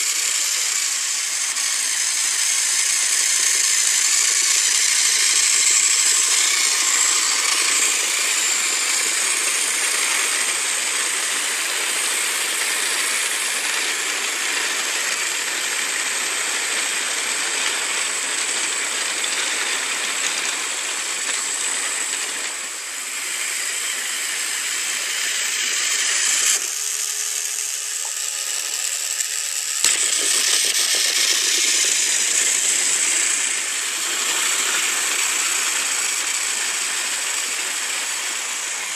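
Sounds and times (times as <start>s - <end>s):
toy train motor whirring: 0.0s - 38.9s
toy train rattling over plastic track: 0.0s - 38.9s.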